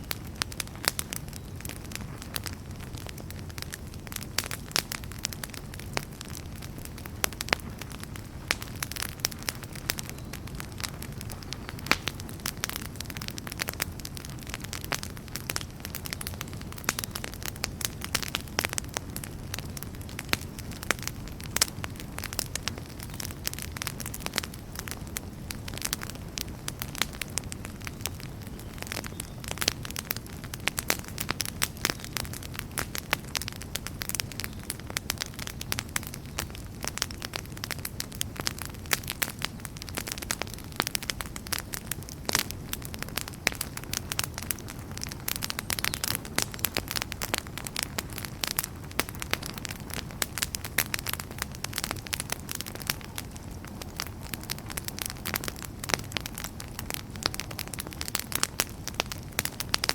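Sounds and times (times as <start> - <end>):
campfire crackling and popping: 0.0 - 59.9
low rush of flame: 0.0 - 59.9.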